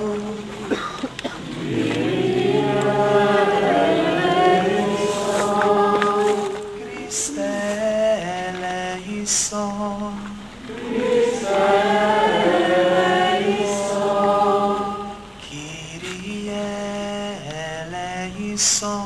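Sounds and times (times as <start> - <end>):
voices singing slow chant: 0.0 - 19.0.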